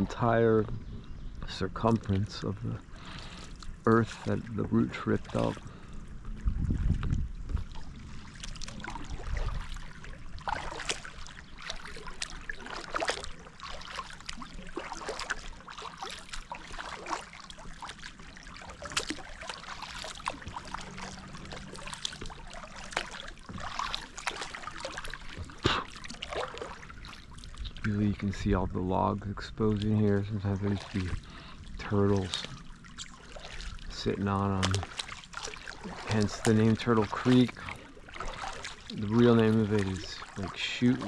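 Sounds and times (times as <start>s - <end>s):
water trickling off paddle: 1.0s - 41.0s
paddle splashing: 1.5s - 41.0s.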